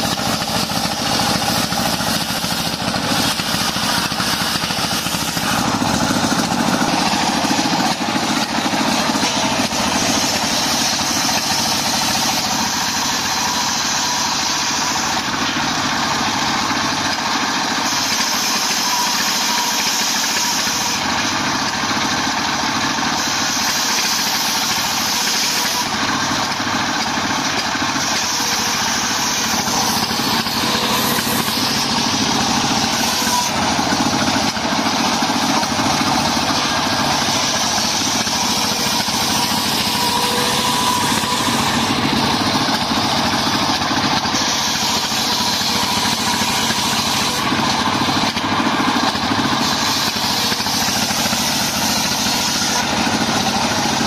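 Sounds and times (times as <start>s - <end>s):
diesel engine running: 0.0s - 54.0s
saw blade whining through wood: 0.0s - 54.0s.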